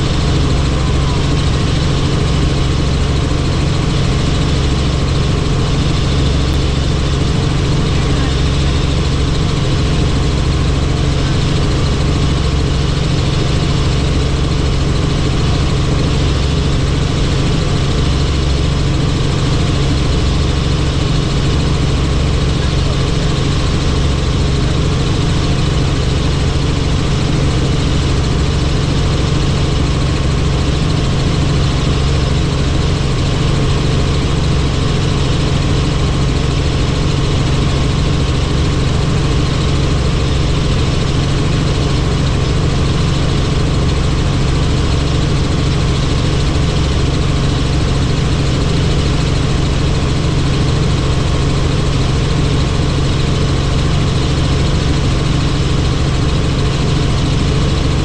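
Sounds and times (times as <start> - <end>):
helicopter droning: 0.0 - 58.0.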